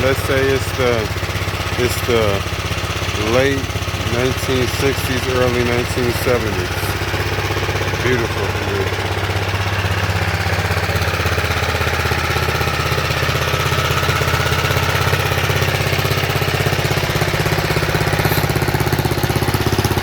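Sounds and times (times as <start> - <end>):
mini bike engine idling: 0.0 - 20.0.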